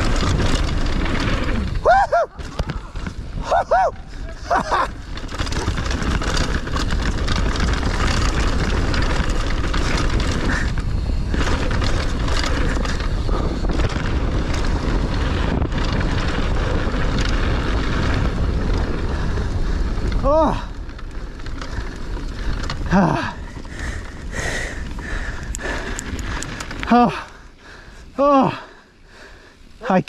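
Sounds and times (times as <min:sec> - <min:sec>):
mountain bike rattling: 0:00.0 - 0:30.0
tyre roar on dirt: 0:00.0 - 0:30.0
wind buffeting microphone: 0:00.0 - 0:30.0.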